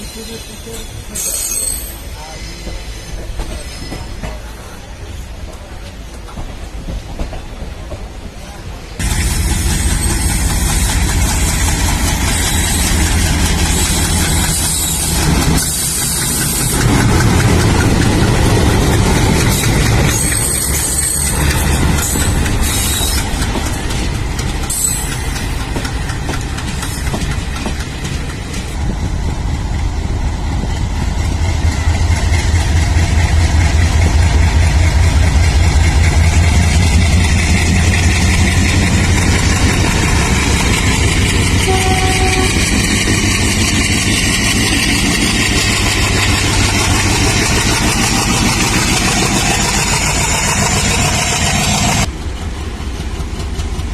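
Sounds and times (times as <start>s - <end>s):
diesel locomotive engines chugging: 8.8s - 53.9s.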